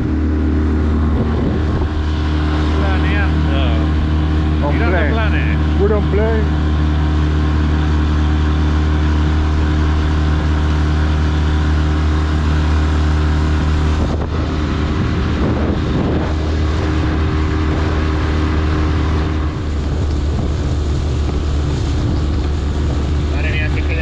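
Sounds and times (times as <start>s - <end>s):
wind on microphone: 0.0s - 4.7s, 7.3s - 24.0s
outboard motor running: 0.0s - 24.0s
water rushing past hull: 0.0s - 24.0s.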